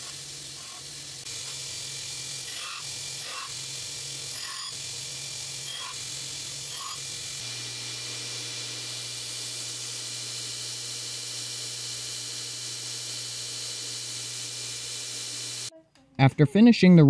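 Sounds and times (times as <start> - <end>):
belt grinder motor hum: 0.0 - 15.7.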